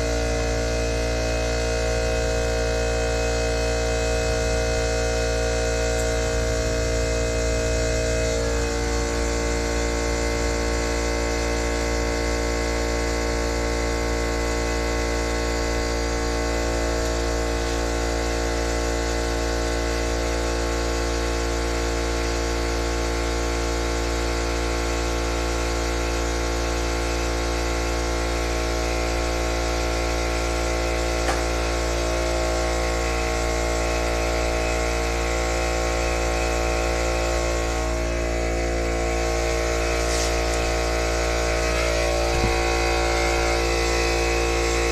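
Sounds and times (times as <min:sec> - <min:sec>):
air compressor droning: 0:00.0 - 0:44.9.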